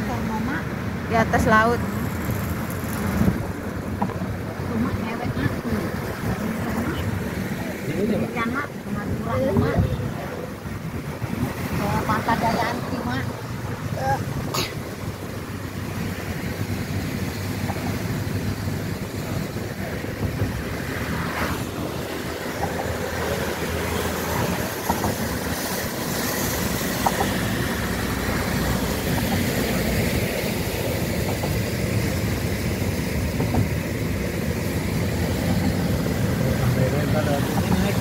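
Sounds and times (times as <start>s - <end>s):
car road noise: 0.0s - 38.0s.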